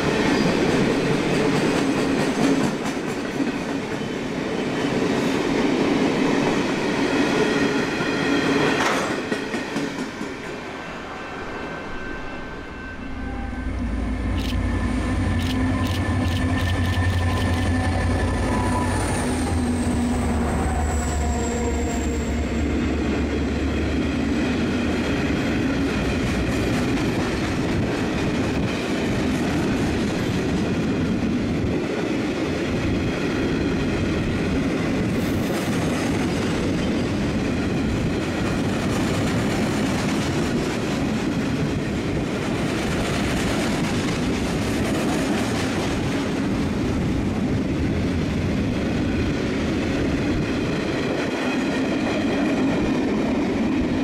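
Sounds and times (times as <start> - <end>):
diesel locomotive engine passing: 0.0 - 54.0.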